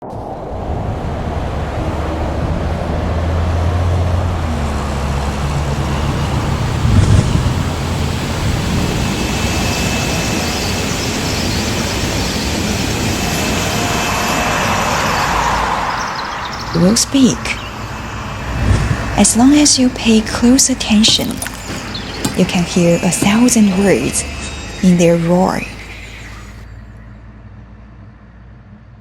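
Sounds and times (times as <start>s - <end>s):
broad rushing noise: 0.0s - 26.6s
machinery engine drone: 0.0s - 29.0s
faint high whine: 0.1s - 28.5s
loud machinery clatter: 1.5s - 15.1s, 16.8s - 26.6s.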